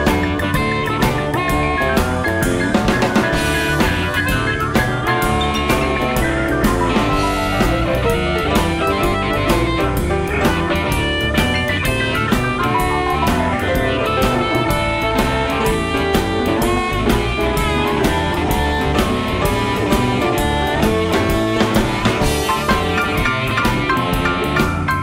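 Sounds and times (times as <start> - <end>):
drum kit beat: 0.0 - 25.0
electric guitar lines: 0.0 - 25.0.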